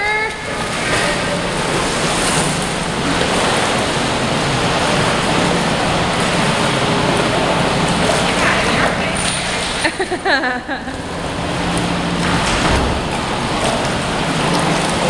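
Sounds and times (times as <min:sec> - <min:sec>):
churned pool water rushing: 0:00.0 - 0:15.0
dog paddling and splashing: 0:00.3 - 0:15.0.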